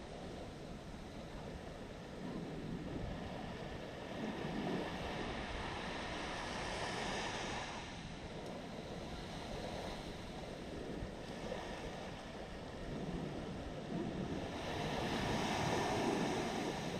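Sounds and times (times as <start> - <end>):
wind rumble on microphone: 0.0 - 16.9
surf washing onto shore: 2.1 - 16.9.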